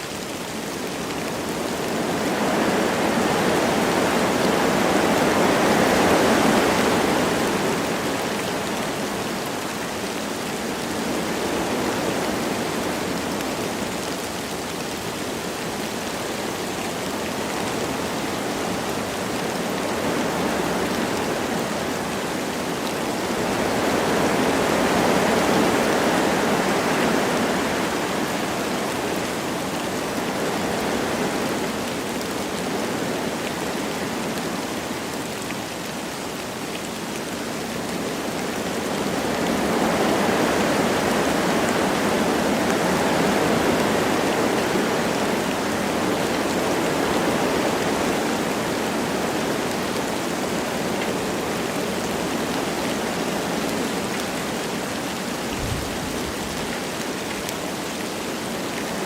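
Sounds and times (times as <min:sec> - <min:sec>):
light rain: 0:00.0 - 0:59.0
wind rushing through trees: 0:00.0 - 0:59.0.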